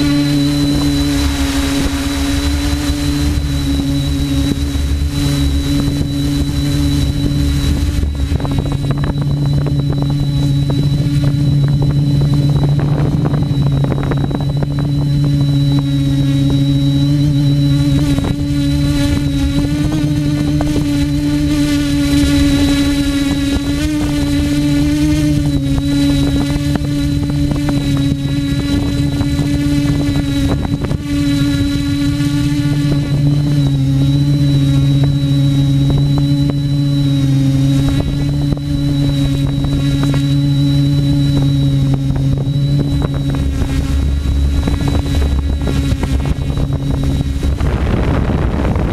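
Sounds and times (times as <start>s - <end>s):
drone propellers buzzing: 0.0s - 48.9s.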